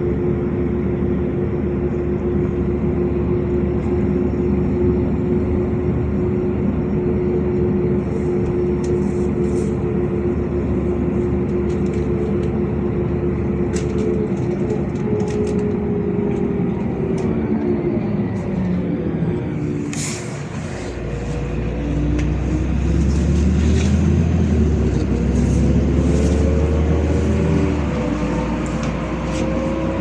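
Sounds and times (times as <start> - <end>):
bus engine and drivetrain noise: 0.0 - 30.0
held whine: 0.0 - 30.0.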